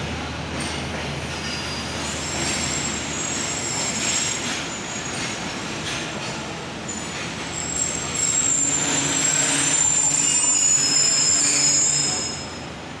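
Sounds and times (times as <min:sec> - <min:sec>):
low train rumble: 0:00.0 - 0:13.0
train brakes squealing: 0:00.6 - 0:13.0.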